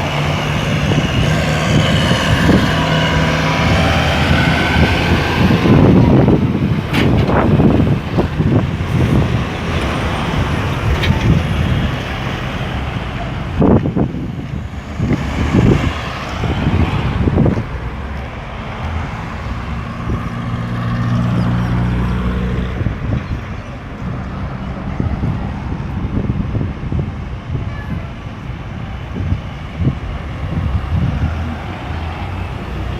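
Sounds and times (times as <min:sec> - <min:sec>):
heavy vehicle engine hum: 0:00.0 - 0:32.9
traffic passing: 0:00.0 - 0:32.9.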